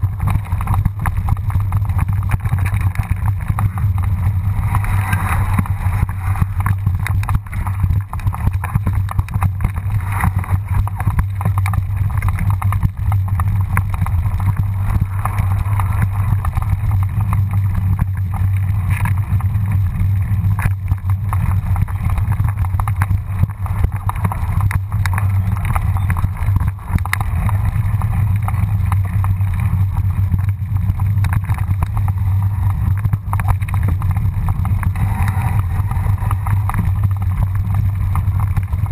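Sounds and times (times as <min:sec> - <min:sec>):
bike knocks and rattles: 0:00.0 - 0:38.9
wind rumble on microphone: 0:00.0 - 0:38.9.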